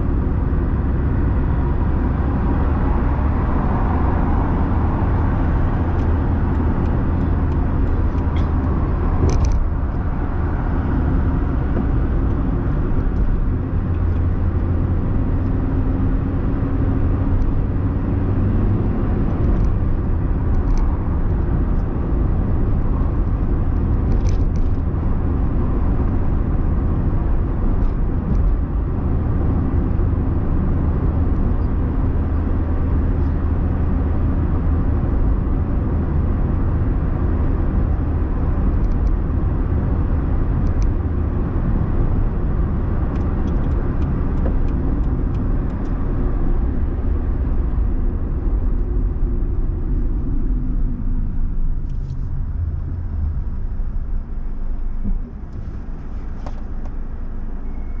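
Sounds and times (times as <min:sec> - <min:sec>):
car engine and tyre drone: 0:00.0 - 0:58.0.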